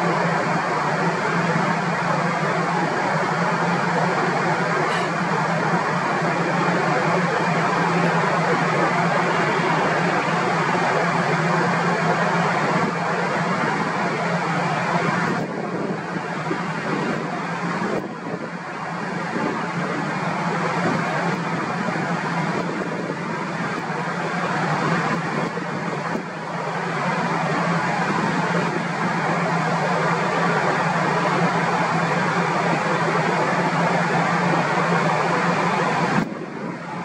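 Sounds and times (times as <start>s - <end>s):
engine rushing hum: 0.0s - 37.0s.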